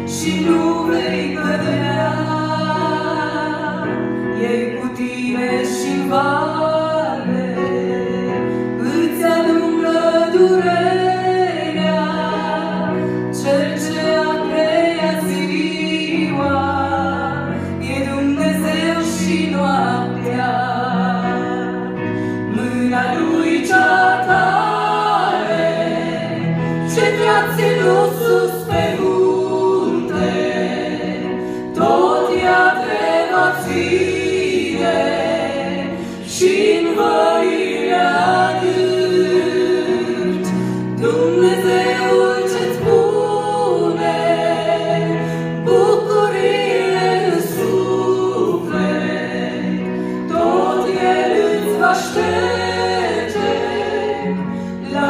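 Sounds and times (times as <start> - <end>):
women singing gospel: 0.0 - 55.0.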